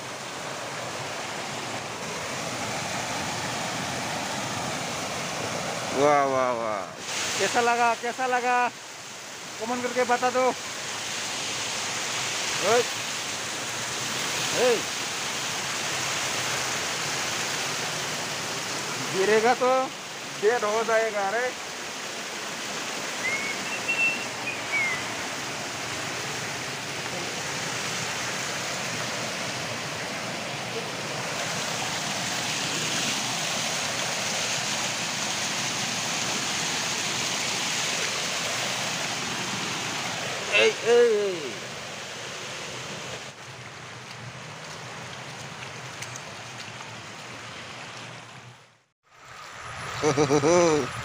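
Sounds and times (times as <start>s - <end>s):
water rushing over weir: 0.0s - 51.0s.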